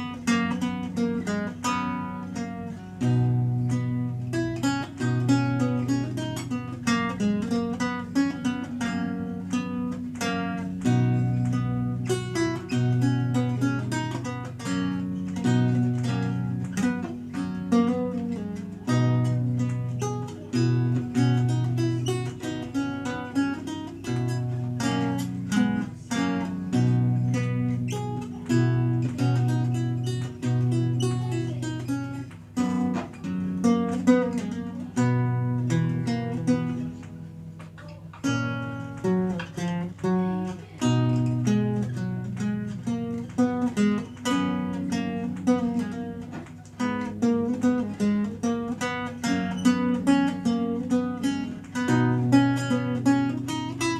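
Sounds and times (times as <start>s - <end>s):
solo lute playing: 0.0s - 53.9s.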